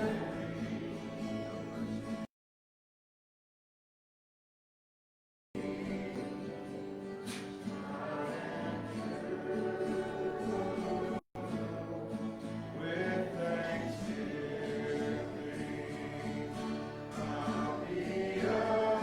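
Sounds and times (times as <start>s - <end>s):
congregation singing: 0.0s - 2.1s, 5.6s - 19.0s.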